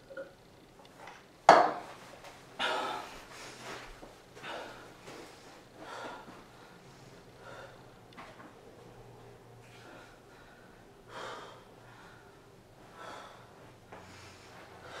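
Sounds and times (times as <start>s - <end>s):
heavy breathing: 2.6s - 15.0s.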